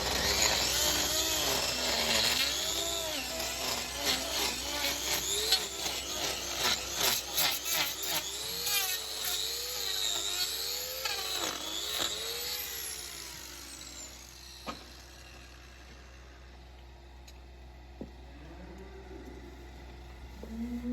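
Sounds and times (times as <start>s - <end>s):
power tool grinding hoof: 0.0s - 16.6s, 18.0s - 20.9s.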